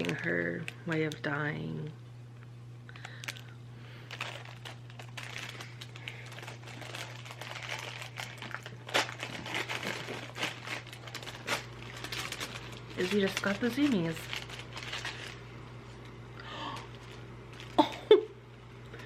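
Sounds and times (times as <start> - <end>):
packaging crinkling and rustling: 0.0 - 1.5, 3.0 - 15.5, 16.5 - 18.2
steady low hum: 0.0 - 19.0.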